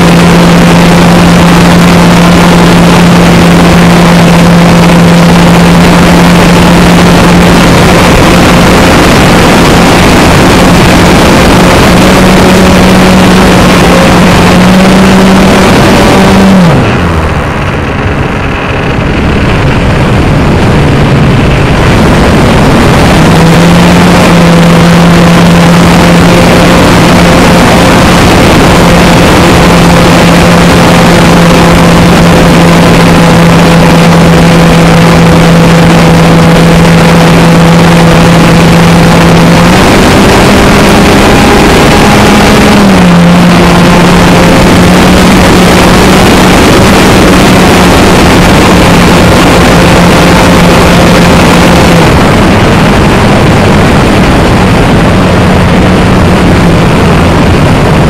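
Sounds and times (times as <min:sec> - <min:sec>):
model plane motor and propeller: 0:00.0 - 0:53.5
heavy wind rush: 0:00.0 - 0:58.0.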